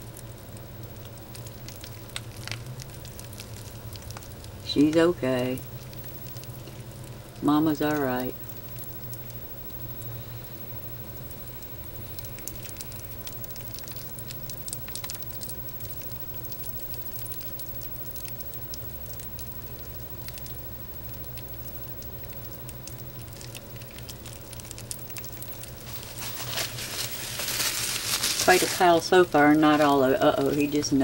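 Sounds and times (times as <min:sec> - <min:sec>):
snake skin crackling and rustling: 0:00.0 - 0:04.6, 0:05.6 - 0:07.4, 0:08.2 - 0:31.0
low electrical hum: 0:00.0 - 0:31.0.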